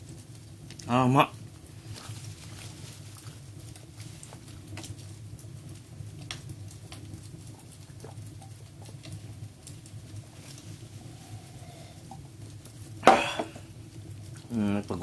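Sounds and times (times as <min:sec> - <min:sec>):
campfire crackling: 0:00.0 - 0:15.0
steady low hum: 0:00.0 - 0:15.0.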